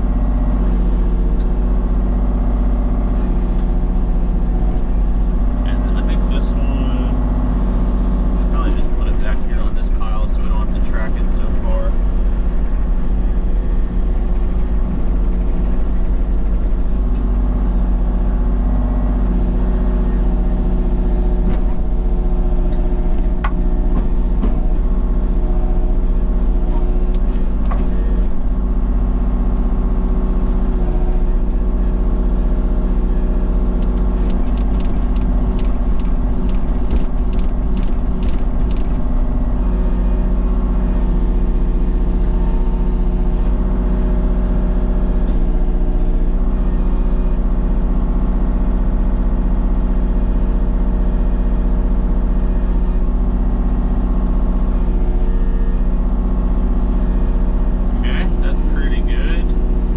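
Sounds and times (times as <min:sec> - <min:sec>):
heavy machinery engine running: 0:00.0 - 0:59.9.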